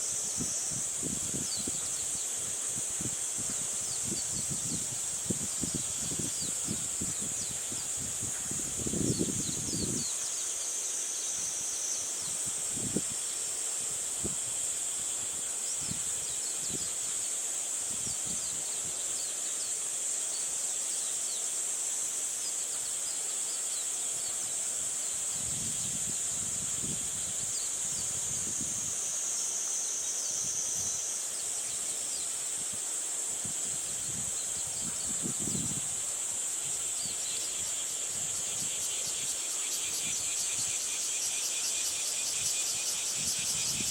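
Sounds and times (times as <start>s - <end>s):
insects chorus: 0.0s - 43.9s.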